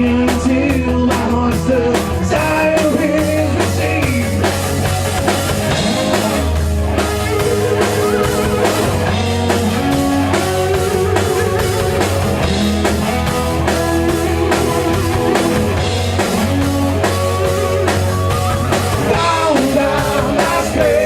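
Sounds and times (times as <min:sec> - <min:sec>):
rock band playing live: 0:00.0 - 0:21.0.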